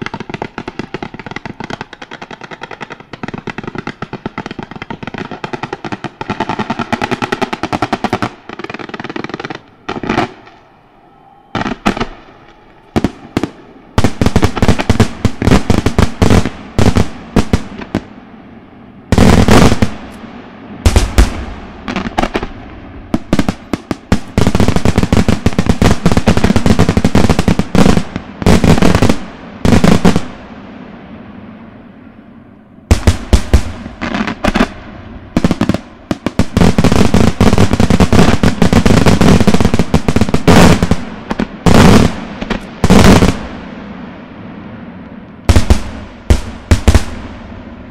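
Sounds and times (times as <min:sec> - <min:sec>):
fireworks bangs and bursts: 0:00.0 - 0:10.6, 0:11.5 - 0:18.2, 0:19.1 - 0:31.3, 0:32.9 - 0:47.9
fireworks crackle: 0:00.0 - 0:10.7, 0:11.5 - 0:18.2, 0:19.1 - 0:31.6, 0:32.9 - 0:47.9.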